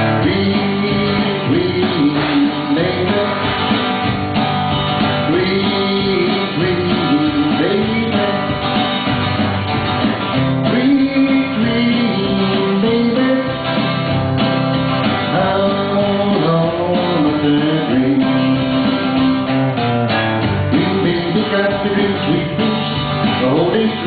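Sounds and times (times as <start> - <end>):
man singing: 0.0 - 4.0, 5.1 - 9.0, 10.4 - 14.2, 15.0 - 19.6, 20.5 - 24.0
acoustic guitar strumming: 0.0 - 24.0.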